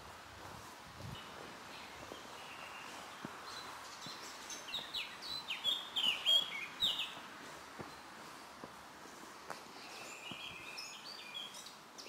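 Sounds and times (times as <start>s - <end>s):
outdoor hiss: 0.0s - 12.0s
songbird chirping: 1.0s - 12.0s.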